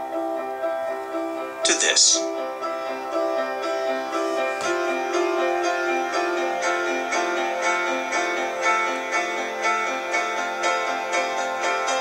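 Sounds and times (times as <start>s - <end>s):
keyboard melody through laptop speakers: 0.0s - 12.0s.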